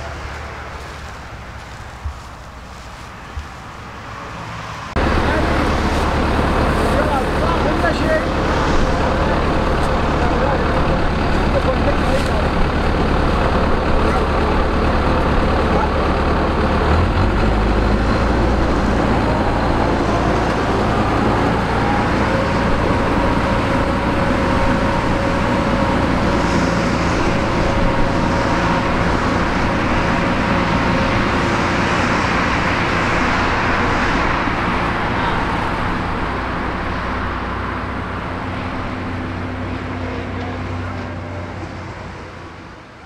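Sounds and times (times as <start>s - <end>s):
combine harvester droning: 0.0s - 43.0s.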